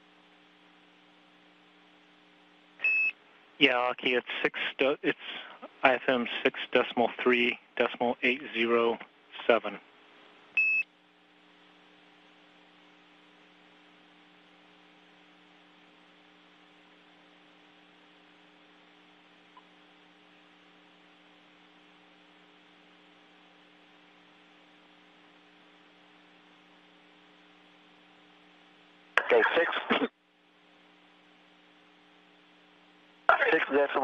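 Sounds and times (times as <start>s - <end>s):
faint hum with hiss: 0.0s - 34.0s.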